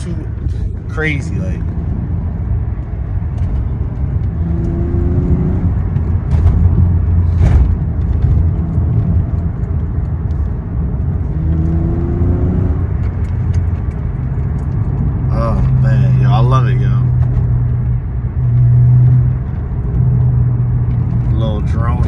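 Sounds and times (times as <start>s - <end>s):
car exhaust drone: 0.0s - 22.0s.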